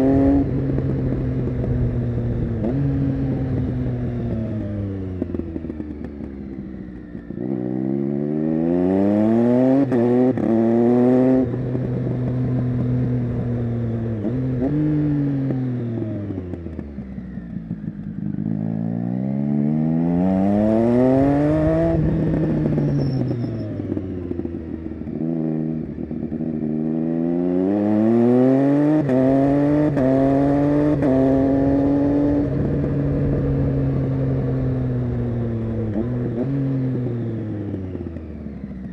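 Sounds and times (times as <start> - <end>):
engine on the overrun: 0.0 - 38.9
motorcycle engine accelerating: 0.0 - 38.9.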